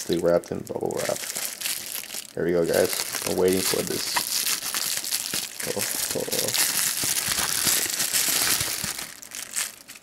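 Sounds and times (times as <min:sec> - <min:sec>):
bubble wrap crinkling and crackling: 0:00.0 - 0:10.0.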